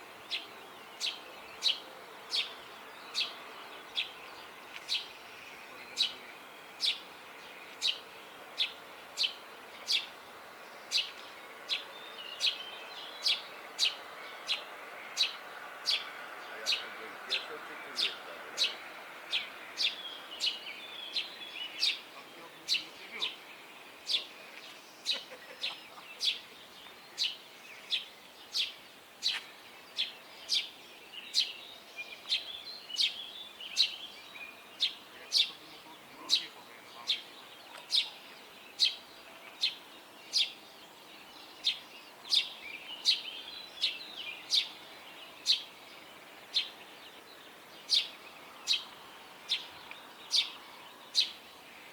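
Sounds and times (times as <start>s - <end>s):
birds chirping softly: 0.0s - 51.9s.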